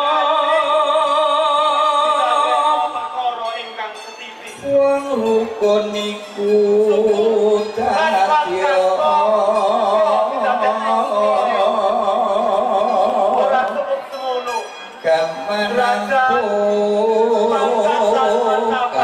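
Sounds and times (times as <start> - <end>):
person singing with vibrato: 0.0 - 19.0.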